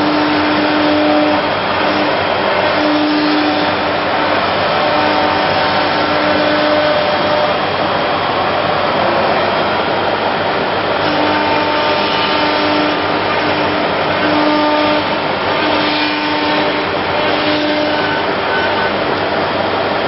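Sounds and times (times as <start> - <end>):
router machine rushing noise: 0.0 - 20.0.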